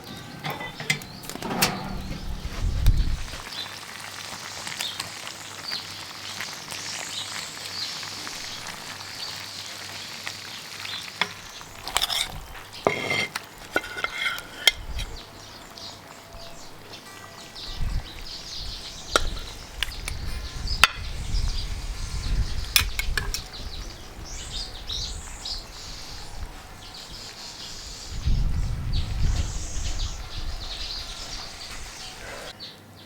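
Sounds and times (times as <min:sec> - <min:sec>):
food sizzling in a pot: 0:03.2 - 0:32.5.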